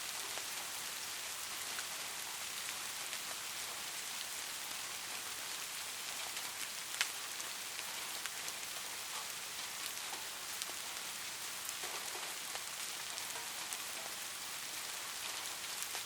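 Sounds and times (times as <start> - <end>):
rain hissing: 0.0 - 16.0
raindrops ticking on a surface: 0.0 - 16.0.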